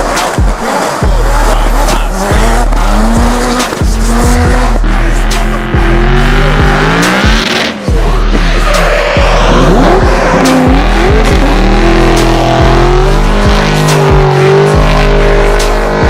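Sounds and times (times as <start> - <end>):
car engines running hard: 0.0 - 16.0
music with steady beat: 0.0 - 16.0
tyres squealing and skidding: 0.0 - 16.0.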